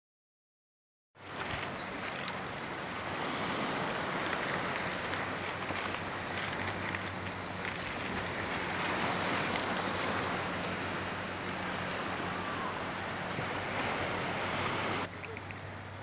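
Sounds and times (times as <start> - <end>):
waves on pebble beach: 1.2 - 15.8
wind on microphone: 1.4 - 15.1.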